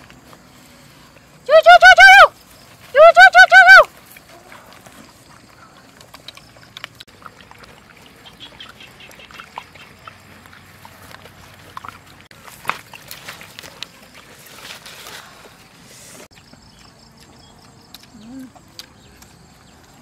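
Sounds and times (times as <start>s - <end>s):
animals crunching food: 0.0s - 20.0s.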